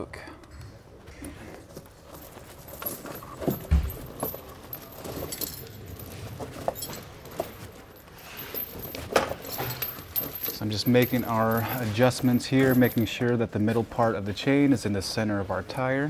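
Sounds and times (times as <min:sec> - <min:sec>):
tire chains clinking: 0:01.6 - 0:16.0.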